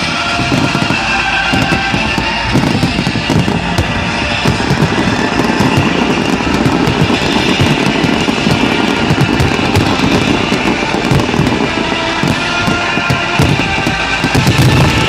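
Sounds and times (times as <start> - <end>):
fireworks booming and crackling: 0.0 - 15.0
music playing: 0.0 - 15.0.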